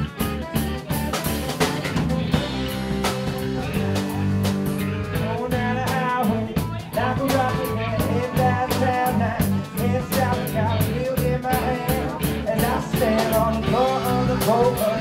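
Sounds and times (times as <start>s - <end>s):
drum kit groove: 0.0s - 15.0s
electric bass guitar: 0.0s - 15.0s
guitar: 0.0s - 15.0s
wavering lead melody: 0.0s - 15.0s.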